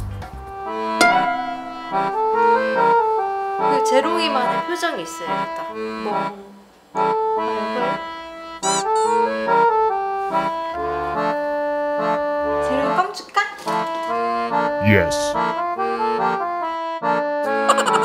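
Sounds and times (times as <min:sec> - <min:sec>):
bouncy accordion tune: 0:00.5 - 0:18.0.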